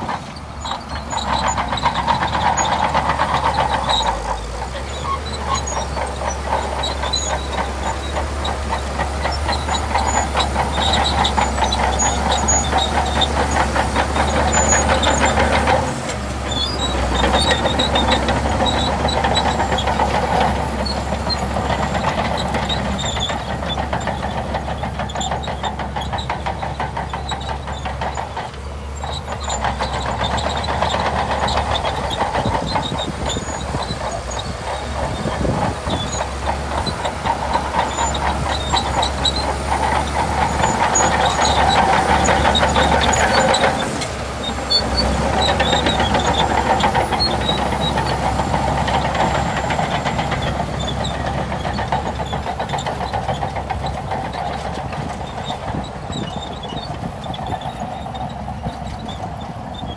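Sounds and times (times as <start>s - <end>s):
bulldozer diesel engine under load: 0.0s - 59.9s
steel tracks clattering: 0.0s - 59.9s.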